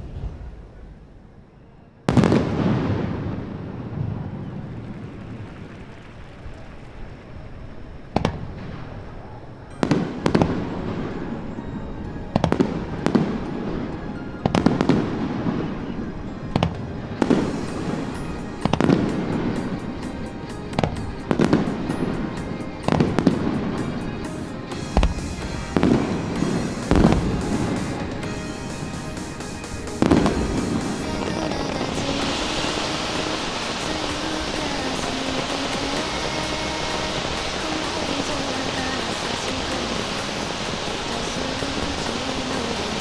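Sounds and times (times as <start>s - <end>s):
fireworks booming: 0.0s - 11.6s, 12.4s - 43.0s
fireworks crackling: 0.0s - 43.0s
music: 8.5s - 43.0s.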